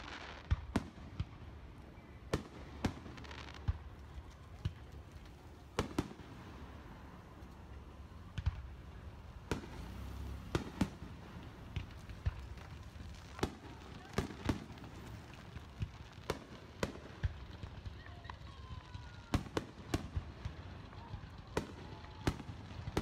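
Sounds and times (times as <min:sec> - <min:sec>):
firework bangs: 0:00.0 - 0:23.0.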